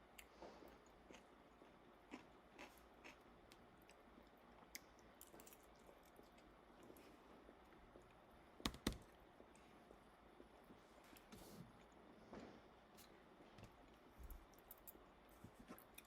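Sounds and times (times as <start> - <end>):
soft chewing: 0.0 - 8.5, 9.1 - 16.0.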